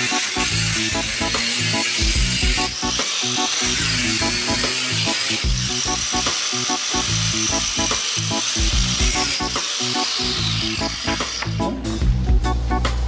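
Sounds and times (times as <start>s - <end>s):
angle grinder cutting tile: 0.0s - 11.9s
background music with steady beat: 0.0s - 13.0s.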